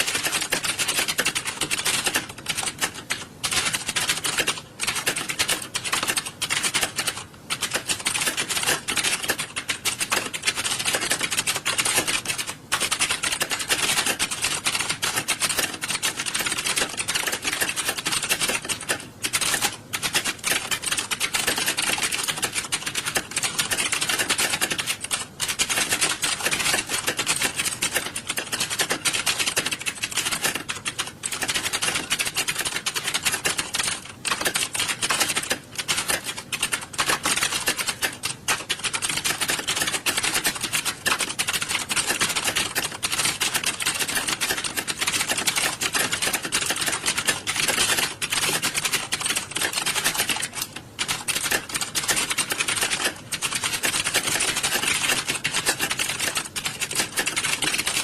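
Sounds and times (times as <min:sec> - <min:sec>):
keyboards typing clatter: 0:00.0 - 0:58.0.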